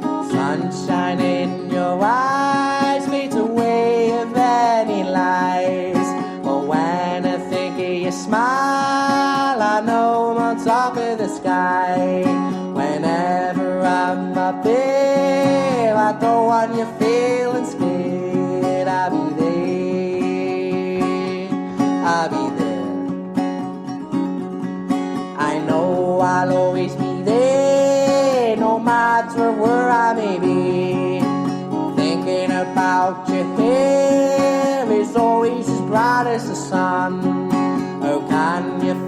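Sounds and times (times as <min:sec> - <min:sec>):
acoustic guitar: 0:00.0 - 0:39.0.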